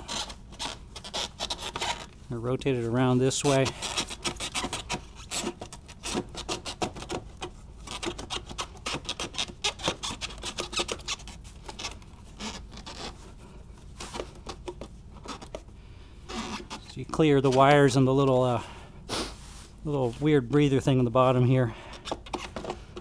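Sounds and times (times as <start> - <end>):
rubber hose scraping against plastic: 0.0 - 18.4, 21.8 - 23.0.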